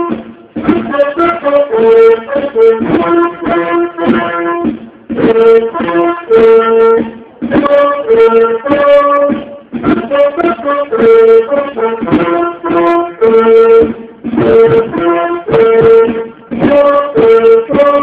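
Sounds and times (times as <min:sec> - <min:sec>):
brass band playing: 0:00.0 - 0:18.0.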